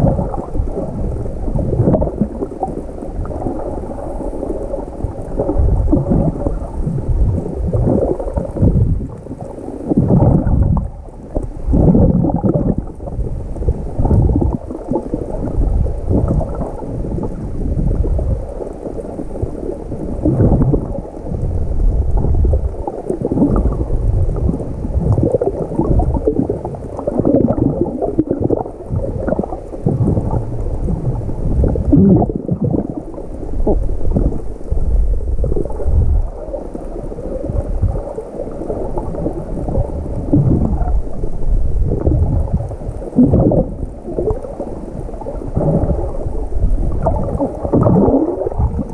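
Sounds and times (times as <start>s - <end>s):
muffled underwater sloshing: 0.0s - 48.9s.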